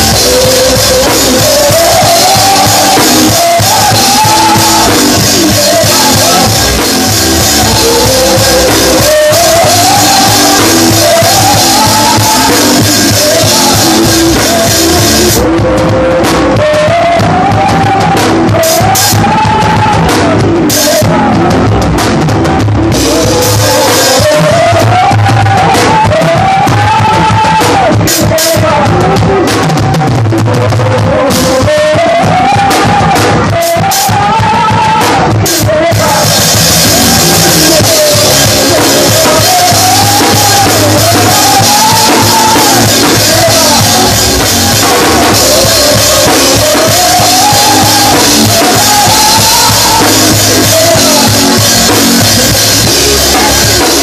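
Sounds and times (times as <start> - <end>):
drum and cymbal hits: 0.0 - 54.0
person singing melody: 0.0 - 54.0.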